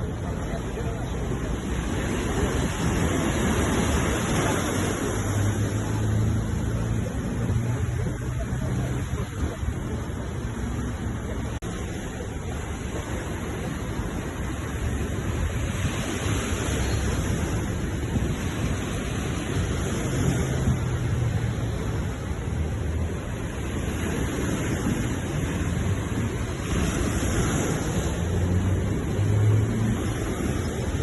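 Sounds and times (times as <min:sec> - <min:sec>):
ocean waves washing on shore: 0:00.0 - 0:31.0.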